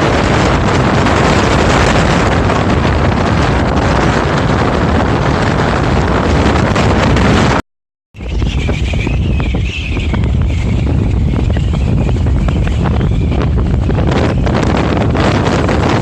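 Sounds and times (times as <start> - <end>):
wind buffeting microphone: 0.0 - 7.6, 8.2 - 16.0.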